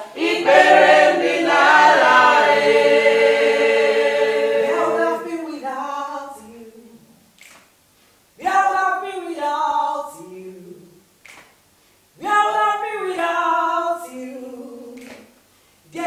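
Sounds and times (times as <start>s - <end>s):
women singing a cappella: 0.0s - 7.3s, 8.4s - 11.0s, 12.2s - 16.0s.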